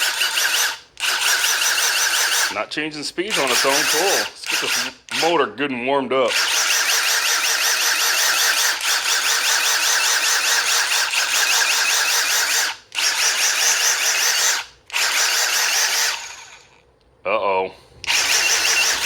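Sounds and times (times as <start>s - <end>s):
impact driver motor whining: 0.0s - 2.6s, 3.3s - 5.4s, 6.3s - 16.8s, 18.0s - 19.0s.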